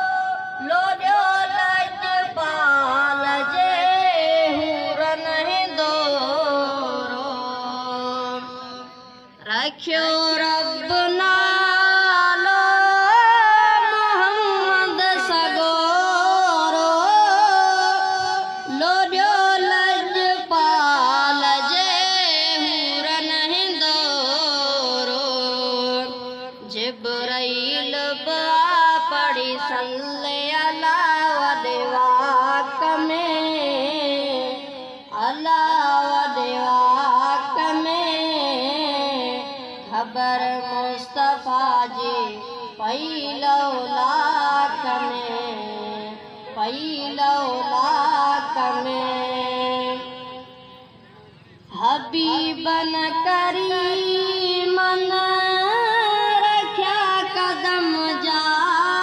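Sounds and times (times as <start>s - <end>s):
high voice singing ornamented phrases: 0.0s - 50.5s, 51.7s - 59.0s.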